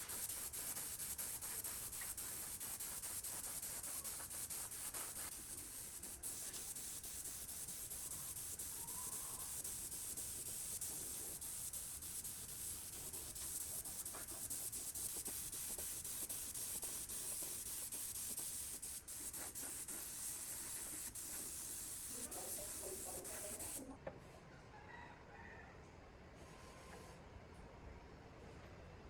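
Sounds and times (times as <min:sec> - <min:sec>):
high-pitched spraying hiss: 0:00.0 - 0:23.9.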